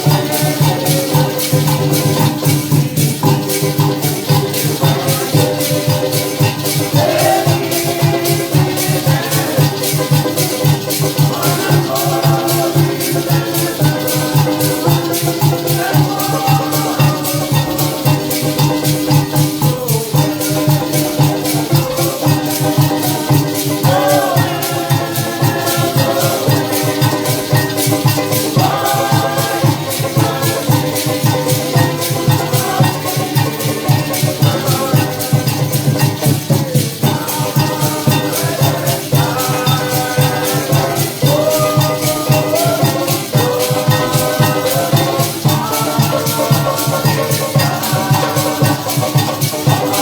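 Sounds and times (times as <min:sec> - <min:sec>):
maraca rhythm: 0:00.0 - 0:50.0.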